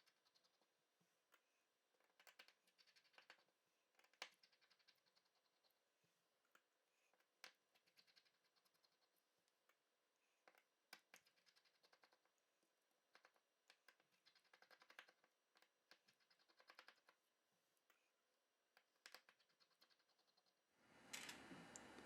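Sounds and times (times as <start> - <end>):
faint small clicks: 0.0 - 5.5, 6.4 - 12.4, 13.1 - 17.2, 17.8 - 20.5, 21.1 - 22.0.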